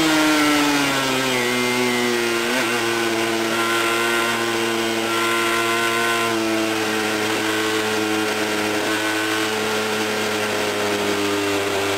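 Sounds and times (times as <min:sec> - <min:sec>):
two-stroke motorcycle engine running: 0:00.0 - 0:11.9.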